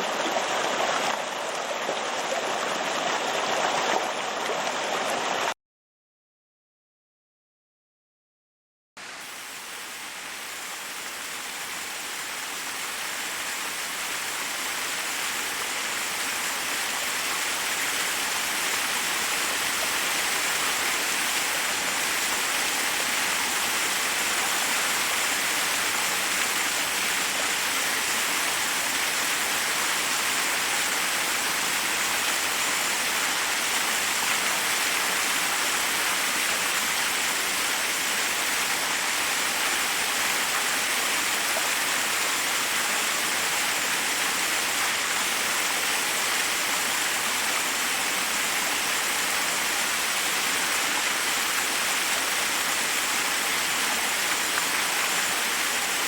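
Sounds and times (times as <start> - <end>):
water rushing over rocks: 0.0 - 5.5, 9.0 - 56.0.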